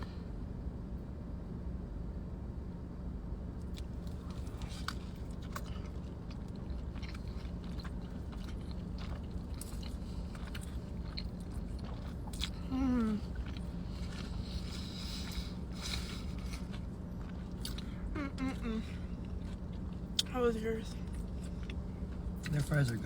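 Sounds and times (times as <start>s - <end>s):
low hum: 0.0s - 23.0s
person chewing food: 3.6s - 20.3s, 20.9s - 23.0s.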